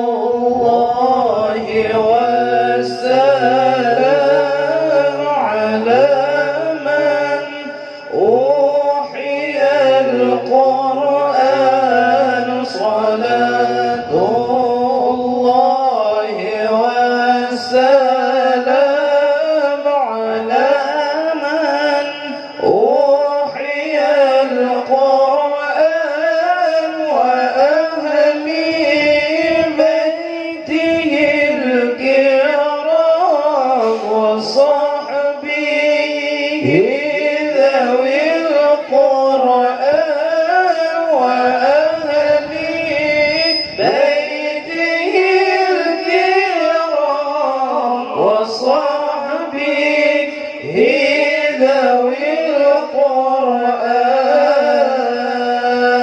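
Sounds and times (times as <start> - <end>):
man singing unaccompanied: 0.0 - 56.0.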